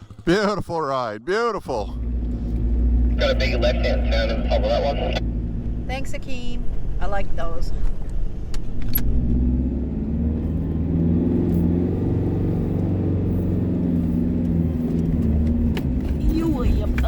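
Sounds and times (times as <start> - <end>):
vehicle engine droning: 1.6 - 17.0.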